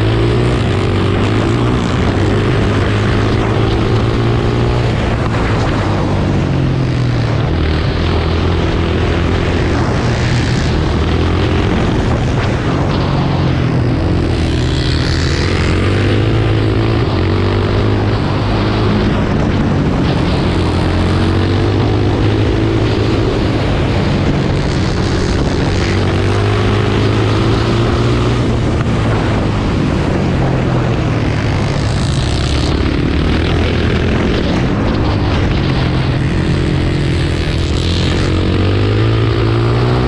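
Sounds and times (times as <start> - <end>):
quad engine revving: 0.0 - 40.0
wind noise: 0.0 - 40.0.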